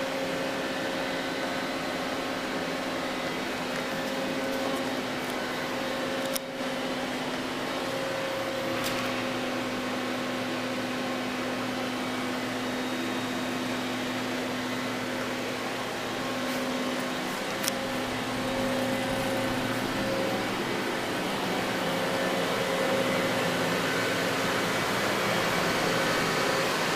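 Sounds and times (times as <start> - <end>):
lathe mechanical hum: 0.0 - 26.9.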